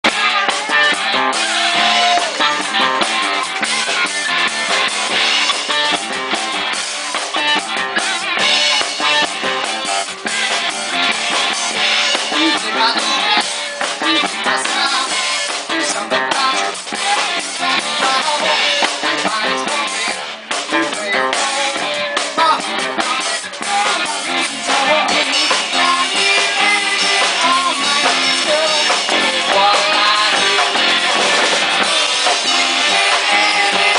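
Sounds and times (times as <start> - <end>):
live funk rock band: 0.0 - 33.9.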